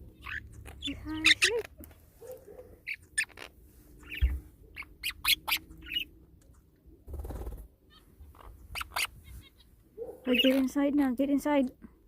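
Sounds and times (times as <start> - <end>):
birds squawking and chirping: 0.0 - 6.2, 7.1 - 10.9.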